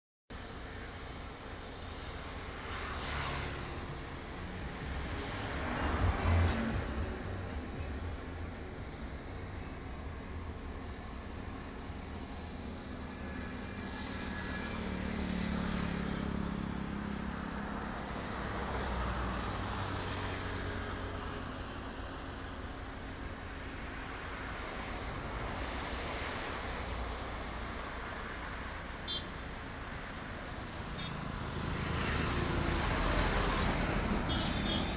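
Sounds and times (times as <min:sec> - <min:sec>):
vehicles passing: 0:00.3 - 0:34.9.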